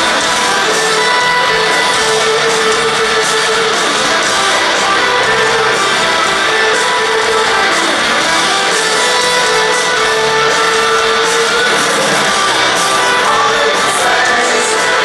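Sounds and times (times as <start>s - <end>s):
electric guitars: 0.0s - 15.0s
live rock band playing loudly: 0.0s - 15.0s.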